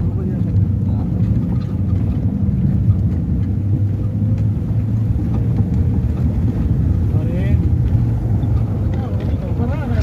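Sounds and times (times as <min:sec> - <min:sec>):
motorboat engine running: 0:00.0 - 0:10.0
water rushing past hull: 0:00.0 - 0:10.0.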